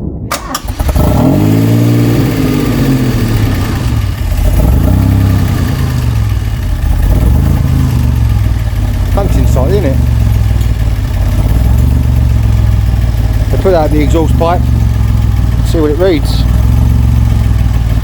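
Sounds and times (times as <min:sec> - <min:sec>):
car engine idling: 0:00.3 - 0:18.0
car engine starting and revving: 0:00.3 - 0:18.0.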